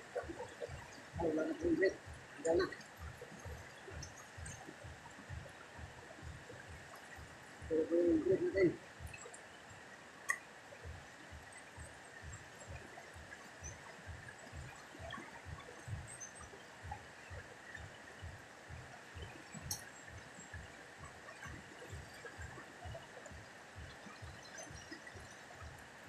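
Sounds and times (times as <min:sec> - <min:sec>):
soft low thumps: 0:00.0 - 0:09.3, 0:10.3 - 0:26.0.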